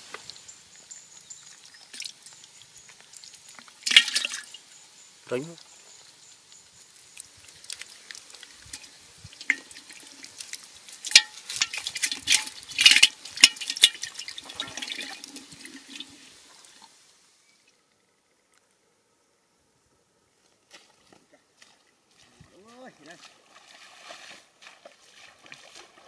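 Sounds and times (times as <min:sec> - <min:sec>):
muddy water splashing: 0:00.0 - 0:05.5, 0:06.4 - 0:16.9, 0:20.6 - 0:26.0.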